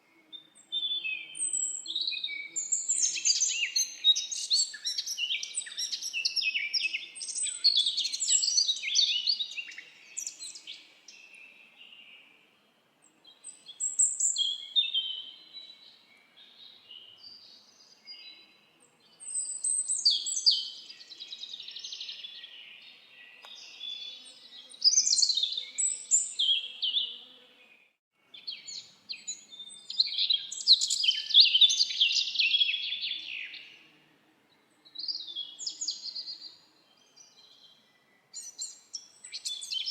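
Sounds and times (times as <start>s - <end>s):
songbirds twittering: 0.0s - 12.4s, 13.2s - 39.9s.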